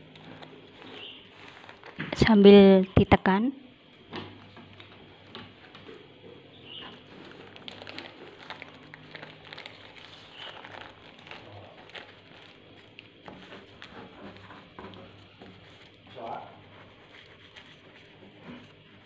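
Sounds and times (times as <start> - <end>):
paper and plastic rustling: 0.0 - 2.4, 4.3 - 19.0.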